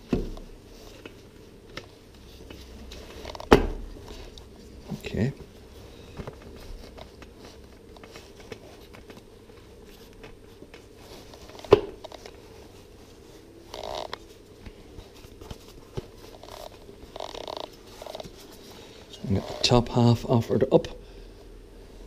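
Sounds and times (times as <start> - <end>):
soft rustles: 0.0 - 20.2.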